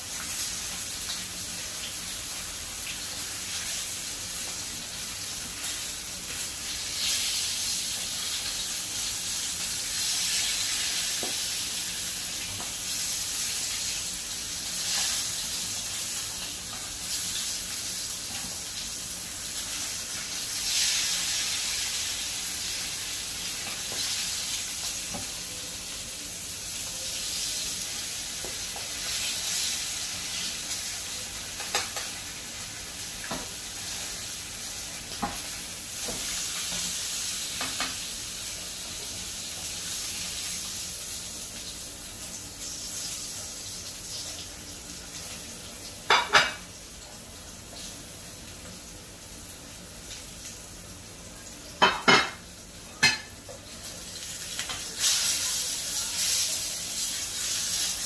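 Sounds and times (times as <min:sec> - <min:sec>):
fish sizzling in a frying pan: 0:00.0 - 0:58.0.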